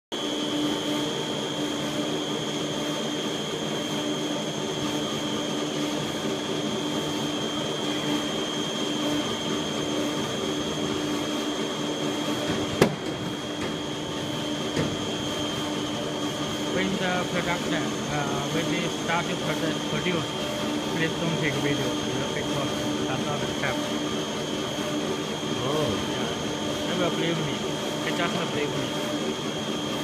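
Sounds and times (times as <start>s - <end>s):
machine hum: 0.1s - 30.0s
high even whine: 0.2s - 30.0s.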